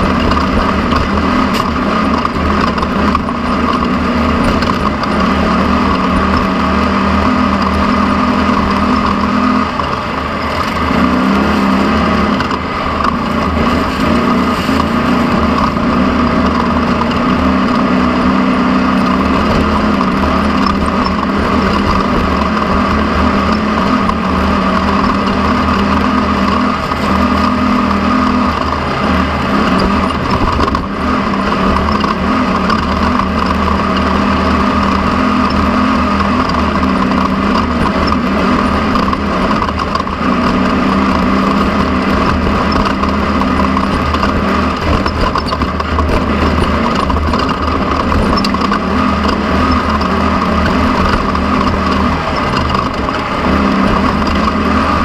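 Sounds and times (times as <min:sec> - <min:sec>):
loud rush of onboard noise: 0:00.0 - 0:55.0
race vehicle engine running hard: 0:00.0 - 0:55.0.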